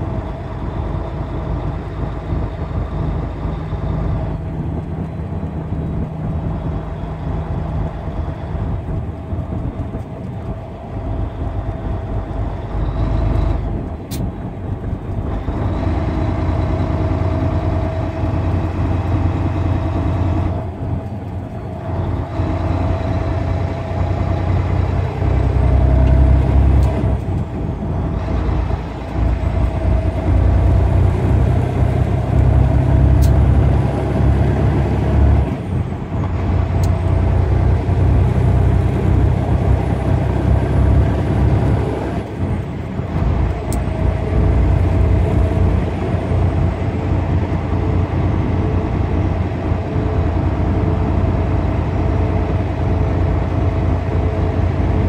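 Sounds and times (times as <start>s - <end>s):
road noise: 0.0s - 55.0s
truck diesel engine drone: 0.0s - 55.0s.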